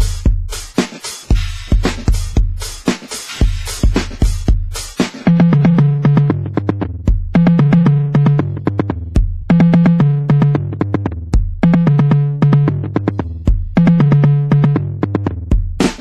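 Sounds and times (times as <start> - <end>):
electronic drum beat: 0.0 - 16.0.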